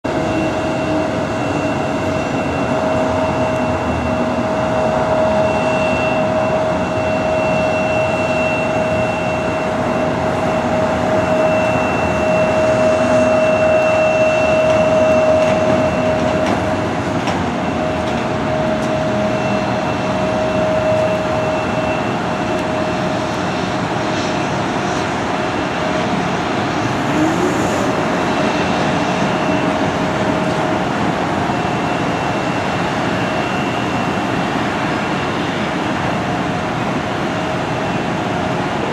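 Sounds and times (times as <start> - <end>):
people-mover tram humming and whining: 0.0 - 38.9.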